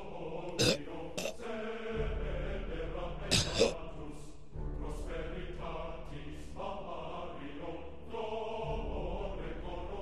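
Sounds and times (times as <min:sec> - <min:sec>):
choral chanting: 0:00.0 - 0:10.0.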